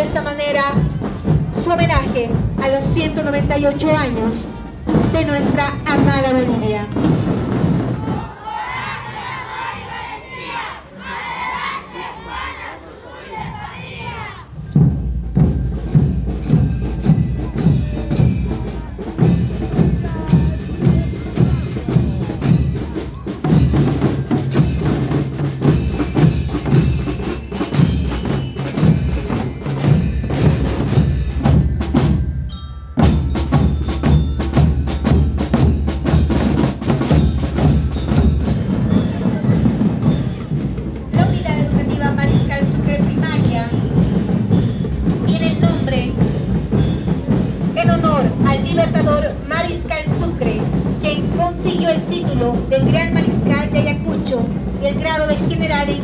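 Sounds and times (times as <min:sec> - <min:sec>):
bass and snare drums: 0:00.0 - 0:08.9, 0:13.3 - 0:56.0
marching band playing: 0:00.0 - 0:56.0.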